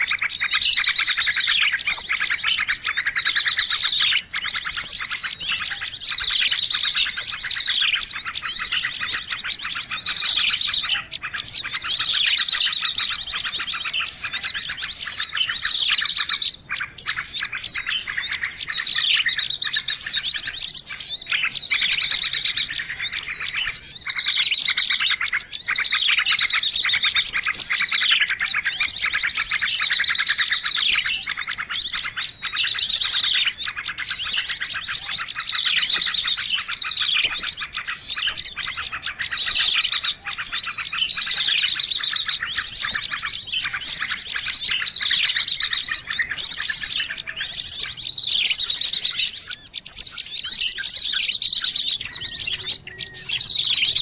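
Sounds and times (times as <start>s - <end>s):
falling whistled bird notes: 0.0s - 54.0s
small birds chirping and twittering: 0.0s - 54.0s.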